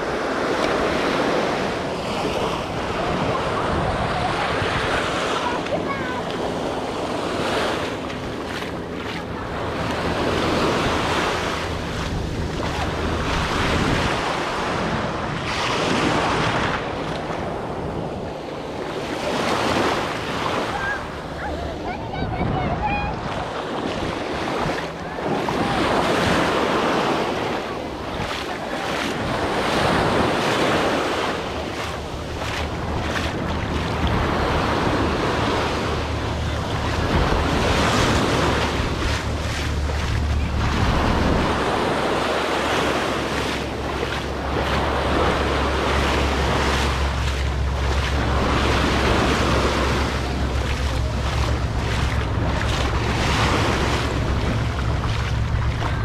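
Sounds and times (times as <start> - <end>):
ocean surf breaking: 0.0 - 56.0
wind rumbling on microphone: 0.0 - 56.0.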